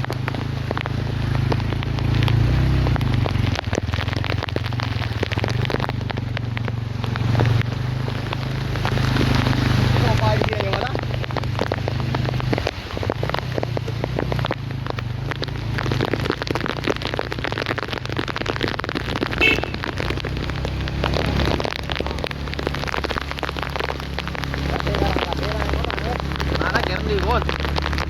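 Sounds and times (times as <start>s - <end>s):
rain patter: 0.0s - 28.0s.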